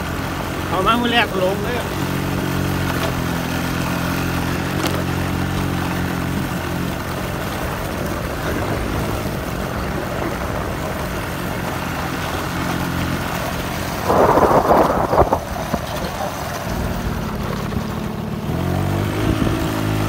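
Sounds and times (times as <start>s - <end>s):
small engine humming: 0.0s - 20.0s
wind or road noise: 0.0s - 20.0s.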